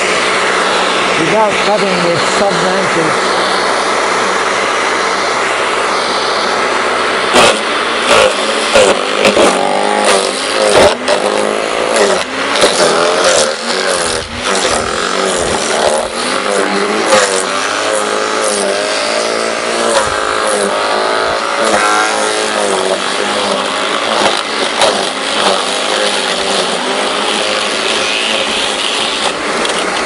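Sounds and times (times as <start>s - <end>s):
garden shredder motor running: 0.0s - 30.0s.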